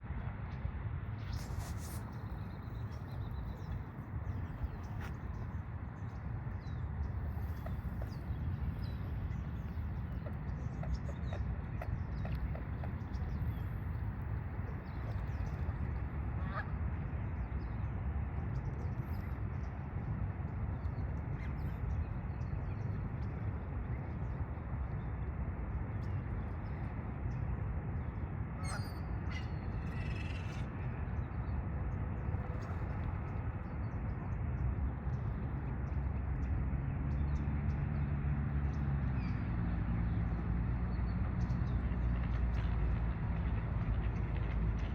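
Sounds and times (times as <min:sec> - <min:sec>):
low outdoor rumble: 0:00.0 - 0:44.9.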